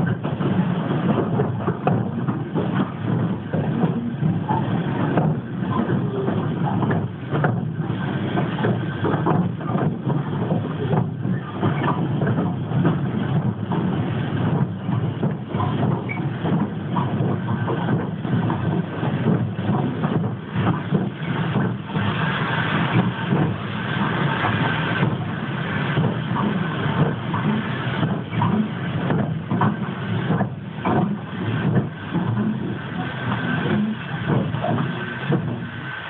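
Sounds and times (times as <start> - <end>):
steam hiss: 0.0 - 36.0
steam locomotive running: 0.0 - 36.0
wheels clattering on track: 0.0 - 36.0.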